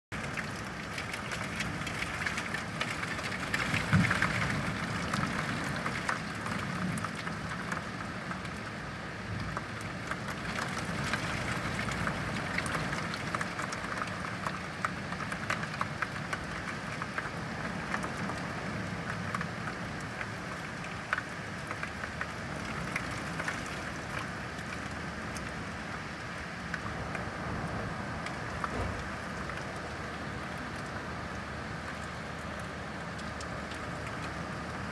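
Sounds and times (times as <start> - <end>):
raindrops ticking: 0.1 - 34.9
steady rain falling: 0.1 - 34.9.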